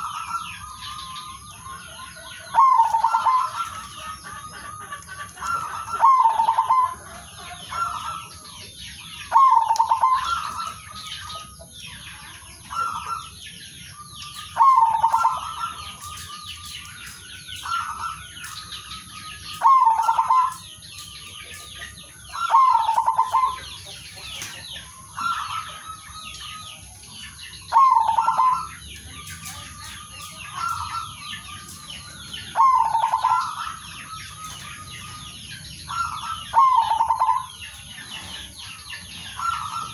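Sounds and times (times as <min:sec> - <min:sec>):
dove cooing: 0:00.0 - 0:11.6, 0:14.3 - 0:16.1, 0:17.6 - 0:20.7, 0:21.5 - 0:28.8, 0:29.4 - 0:39.9
birds chirping: 0:00.0 - 0:39.9.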